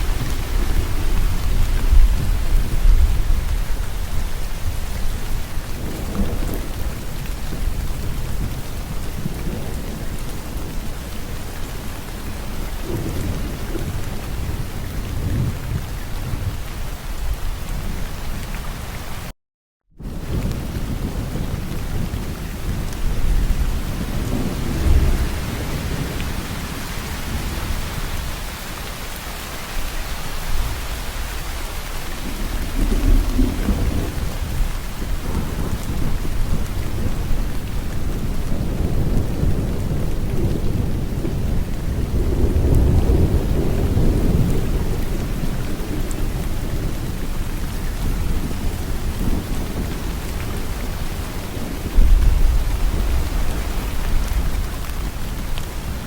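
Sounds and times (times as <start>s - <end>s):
rolling thunder: 0.0s - 18.1s, 20.0s - 28.6s, 29.7s - 56.0s
heavy rain: 0.0s - 19.3s, 20.0s - 56.0s.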